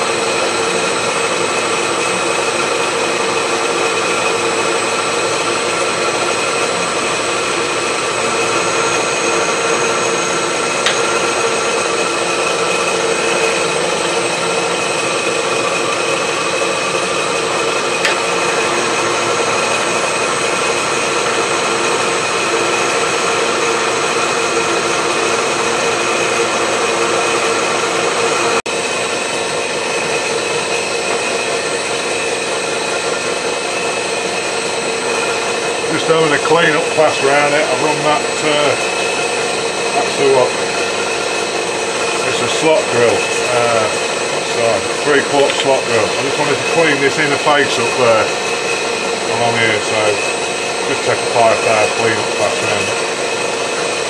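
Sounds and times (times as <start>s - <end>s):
milling machine whining: 0.0s - 54.0s.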